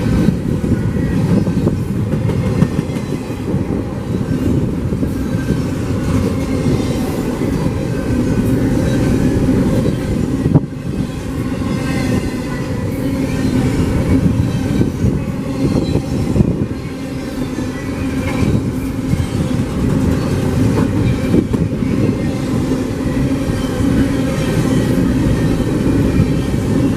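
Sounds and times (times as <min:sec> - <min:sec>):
train wheels rumbling on rail: 0:00.0 - 0:26.9.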